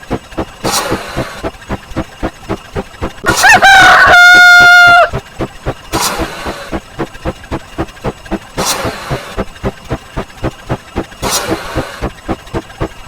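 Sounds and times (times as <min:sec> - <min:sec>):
hissing swish: 0:00.0 - 0:03.6, 0:05.0 - 0:13.0
fast run of short clicks: 0:00.0 - 0:13.0.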